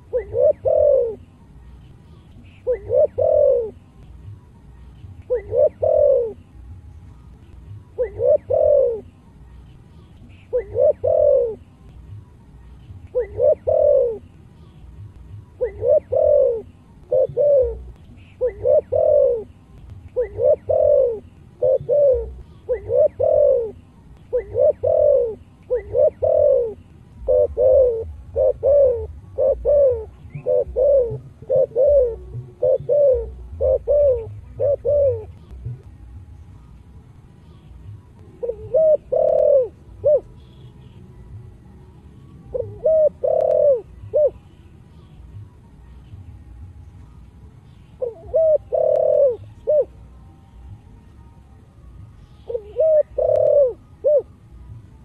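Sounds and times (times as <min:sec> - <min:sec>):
dove cooing: 0:00.0 - 0:06.6, 0:07.4 - 0:35.9, 0:37.4 - 0:45.4, 0:47.8 - 0:50.2, 0:52.2 - 0:54.5.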